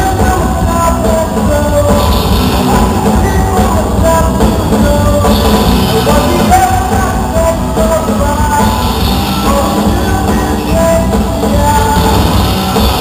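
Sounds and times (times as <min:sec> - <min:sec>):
rock band playing loud: 0:00.0 - 0:13.0.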